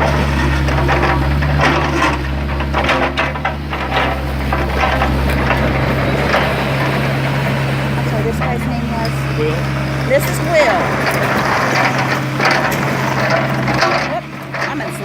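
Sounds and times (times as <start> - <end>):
bucket scraping dirt and rock: 0.0 - 15.0
excavator diesel engine: 0.0 - 15.0.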